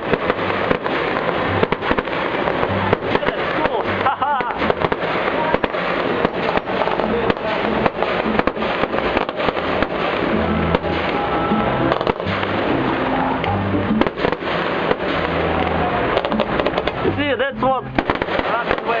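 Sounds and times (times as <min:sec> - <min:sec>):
fireworks bursting and crackling: 0:00.0 - 0:19.0
music with bass: 0:00.0 - 0:19.0.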